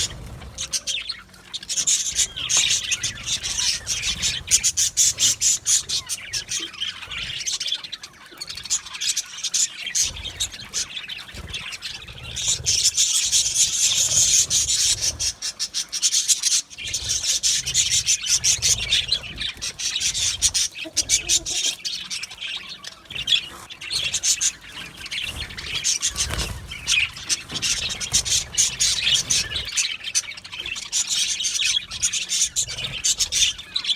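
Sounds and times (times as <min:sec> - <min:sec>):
flock of budgerigars chattering: 0:00.0 - 0:33.9.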